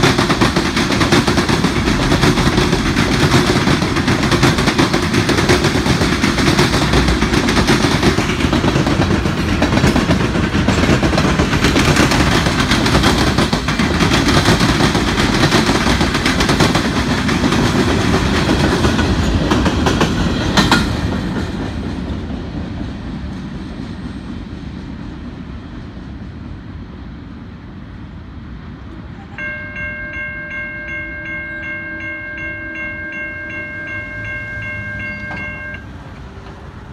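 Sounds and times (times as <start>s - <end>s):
freight train wheels clattering: 0.0s - 26.4s, 29.0s - 36.9s.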